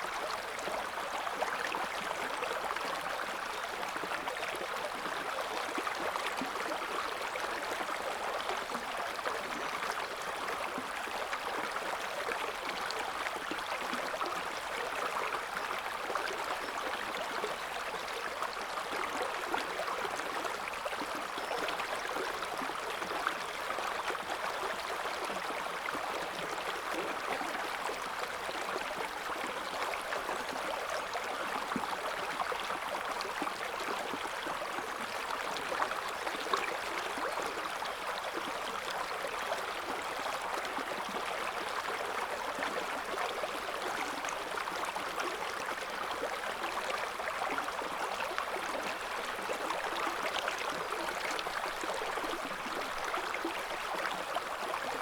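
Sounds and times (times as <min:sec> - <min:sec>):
river water babbling over stones: 0:00.2 - 0:55.0.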